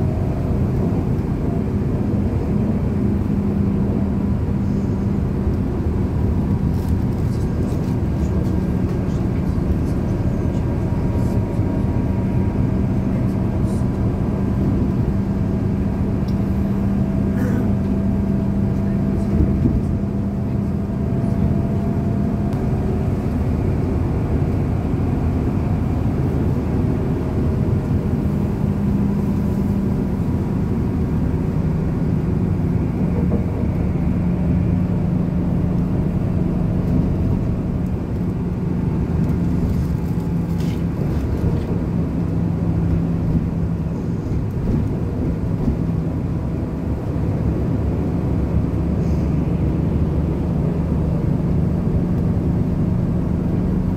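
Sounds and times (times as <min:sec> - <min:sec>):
bus engine drone: 0:00.0 - 0:53.9.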